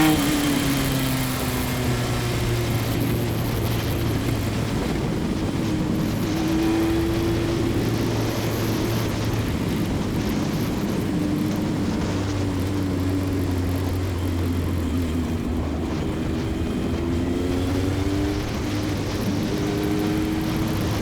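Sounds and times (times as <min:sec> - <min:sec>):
race car engine running: 0:00.0 - 0:21.0.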